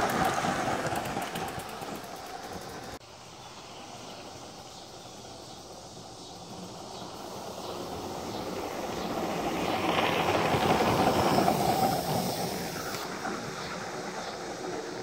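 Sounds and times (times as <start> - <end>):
steam locomotive running past: 0.0 - 15.0.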